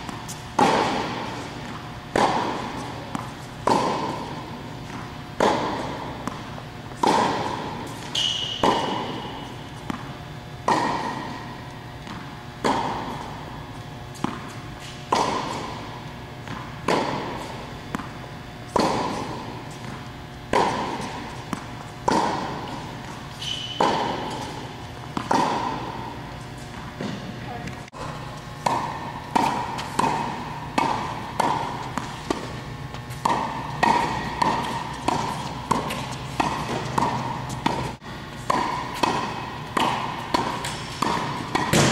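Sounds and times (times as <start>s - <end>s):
tennis ball hits with echo: 0.0s - 41.9s.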